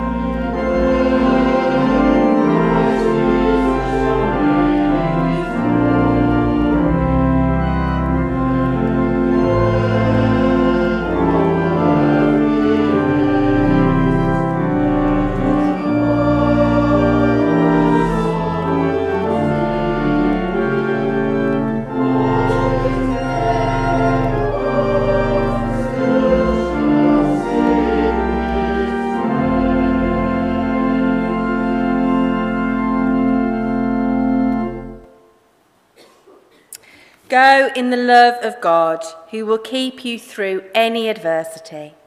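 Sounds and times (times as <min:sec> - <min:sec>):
voices singing a hymn: 0:00.0 - 0:34.8
organ playing slow chords: 0:00.0 - 0:36.1.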